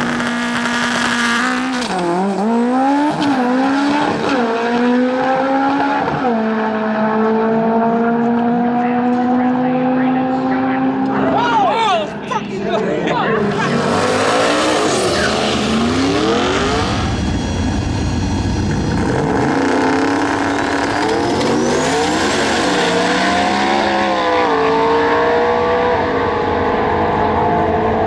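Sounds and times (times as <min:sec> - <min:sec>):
drag race cars accelerating: 0:00.0 - 0:11.4, 0:12.4 - 0:28.0.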